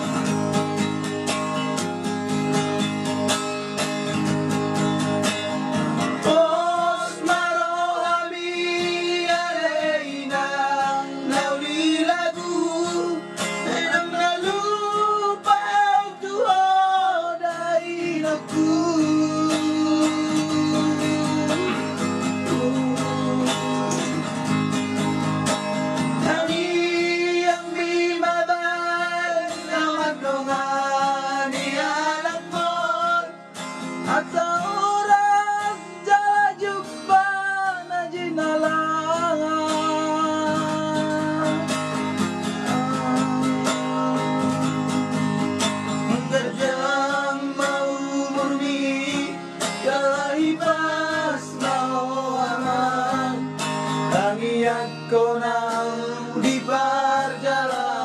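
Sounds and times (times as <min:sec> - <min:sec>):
acoustic guitar strumming: 0:00.0 - 0:58.0
man singing: 0:06.1 - 0:24.6, 0:26.2 - 0:58.0.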